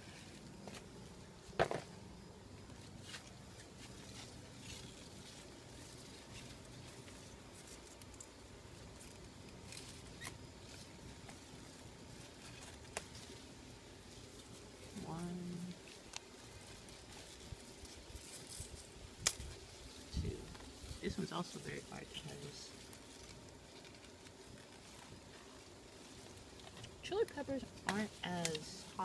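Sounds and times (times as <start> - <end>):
rustling of plant leaves: 0.0 - 29.0.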